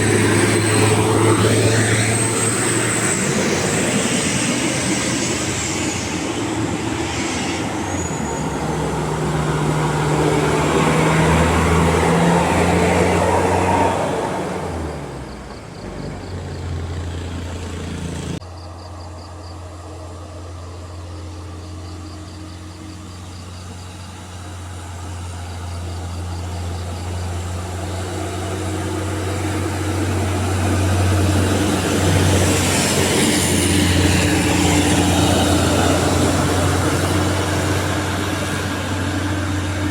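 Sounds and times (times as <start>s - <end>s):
bus engine passing: 0.0s - 39.9s
low steady engine drone: 0.0s - 39.9s.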